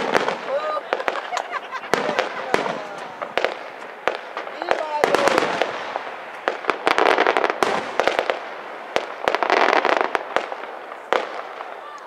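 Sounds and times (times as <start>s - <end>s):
firework shells bursting: 0.0s - 11.8s
firework crackling: 0.0s - 12.0s.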